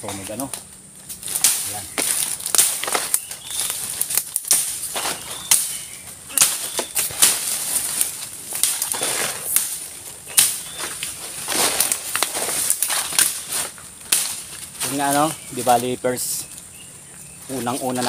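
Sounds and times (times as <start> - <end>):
footsteps crunching through brush: 0.0 - 18.0
leaves rustling: 0.0 - 18.0
twigs snapping underfoot: 0.0 - 18.0.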